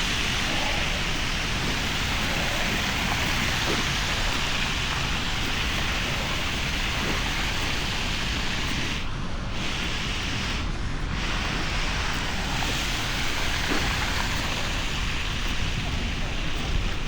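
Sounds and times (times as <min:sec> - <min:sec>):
tyres hissing on wet road: 0:00.0 - 0:17.0
wind on microphone: 0:00.0 - 0:17.0.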